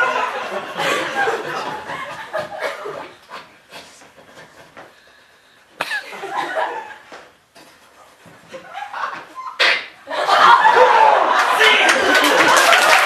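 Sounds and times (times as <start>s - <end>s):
audience chuckling and laughing: 0.0s - 4.7s, 5.8s - 7.3s, 8.5s - 13.0s.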